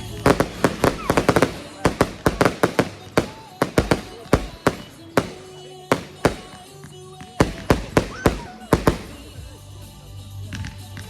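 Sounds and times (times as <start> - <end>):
fireworks banging: 0.0 - 9.6
music playing: 0.0 - 11.0.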